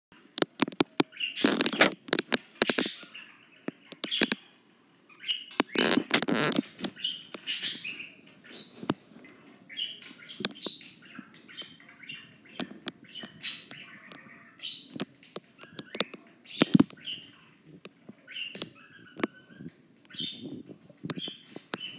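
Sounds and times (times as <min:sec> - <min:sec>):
rabbit chirping: 0:00.6 - 0:21.9.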